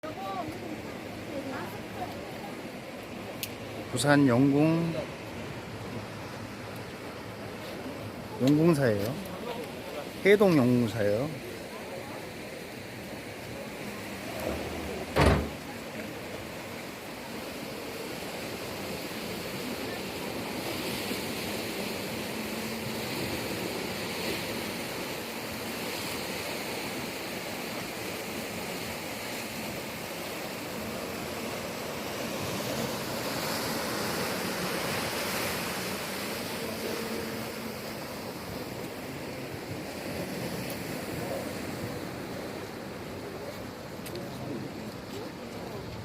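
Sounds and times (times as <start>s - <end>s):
sea waves washing in: 0.0s - 46.0s.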